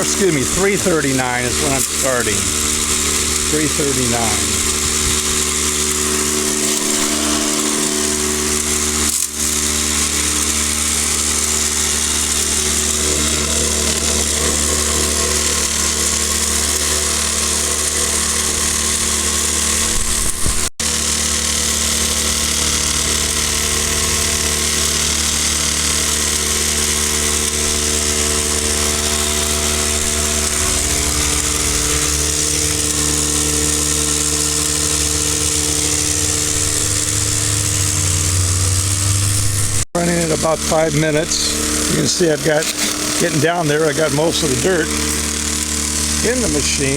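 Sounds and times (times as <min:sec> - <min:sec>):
machine hum: 0:00.0 - 0:46.9.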